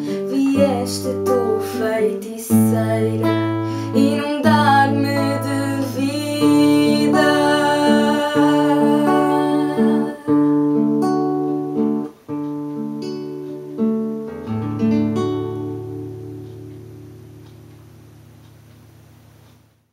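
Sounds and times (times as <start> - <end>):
classical guitar fingerpicking: 0.0 - 19.8.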